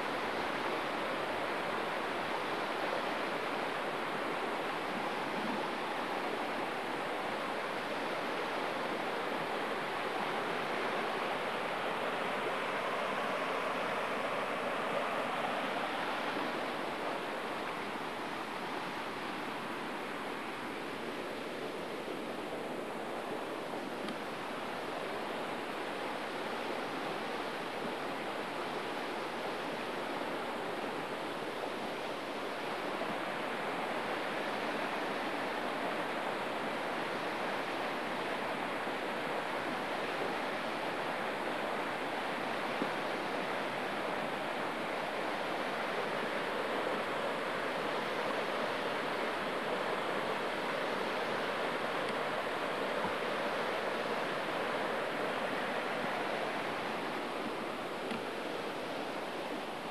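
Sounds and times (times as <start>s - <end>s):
flowing river water: 0.0s - 59.9s.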